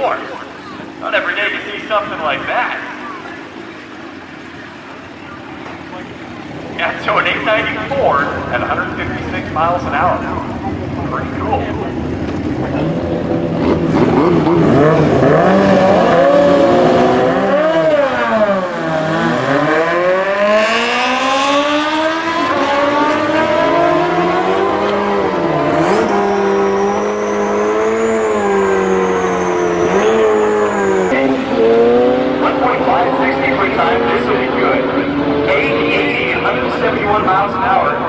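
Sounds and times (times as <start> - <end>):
racing engines revving: 0.0 - 38.0.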